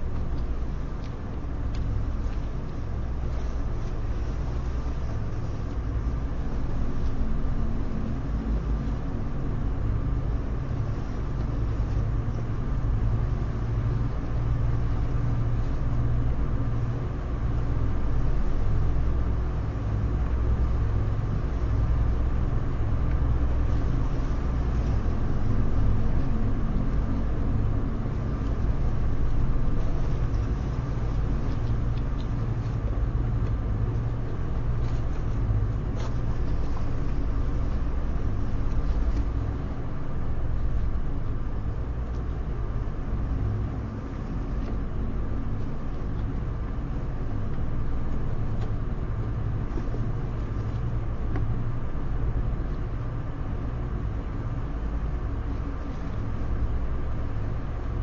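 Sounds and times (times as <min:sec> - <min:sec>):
faint hum: 0:00.0 - 0:58.0
low mechanical rumble: 0:00.0 - 0:58.0.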